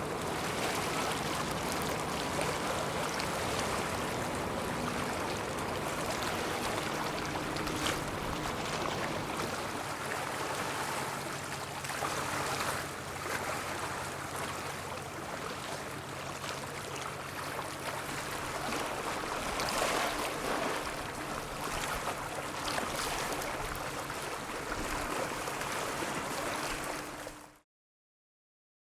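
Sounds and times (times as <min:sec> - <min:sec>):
ship engines humming: 0:00.0 - 0:24.7
rushing water: 0:00.0 - 0:27.6.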